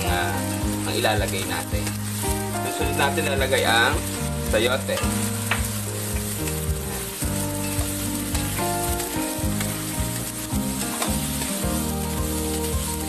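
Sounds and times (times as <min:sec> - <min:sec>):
vegetables sizzling in hot oil: 0:00.0 - 0:13.0
wooden spatula stirring in wok: 0:00.0 - 0:13.0.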